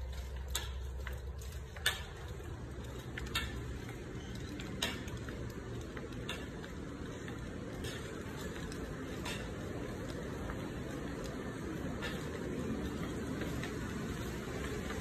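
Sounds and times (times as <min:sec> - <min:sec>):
footsteps on tiled floor: 0:00.0 - 0:15.0
low building hum: 0:00.0 - 0:15.0.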